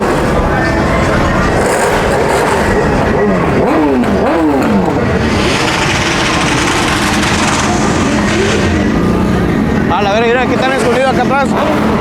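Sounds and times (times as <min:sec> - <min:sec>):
rushing noise: 0:00.0 - 0:10.3
car engine revving: 0:00.0 - 0:12.0.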